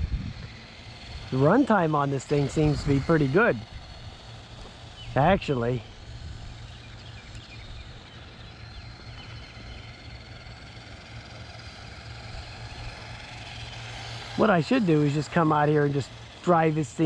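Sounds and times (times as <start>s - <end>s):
high whine of electric toy motor: 0.0s - 17.0s
outdoor background noise: 0.0s - 17.0s
steady low hum: 0.0s - 17.0s.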